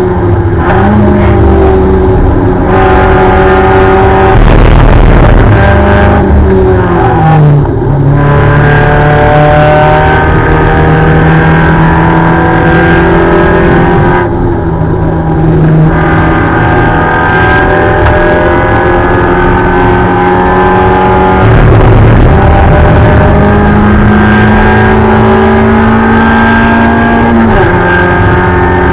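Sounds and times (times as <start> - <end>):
race car engine under load: 0.0 - 28.9.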